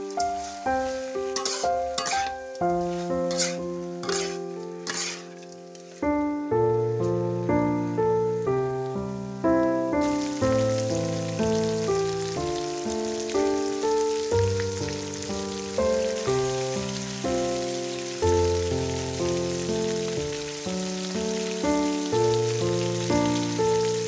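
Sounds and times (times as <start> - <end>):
food sizzling in wok: 0.0 - 6.2, 7.2 - 24.0
background music: 0.0 - 24.0.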